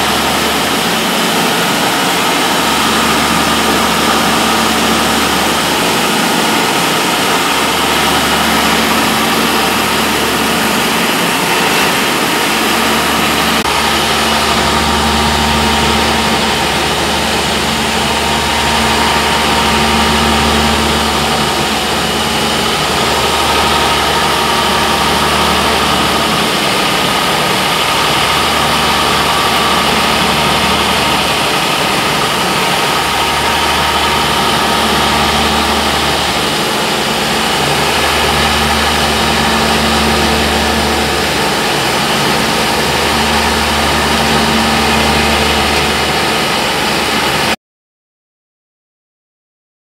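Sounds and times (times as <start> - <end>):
low machine hum: 0.0 - 47.6
machinery drone with whine: 0.0 - 47.6.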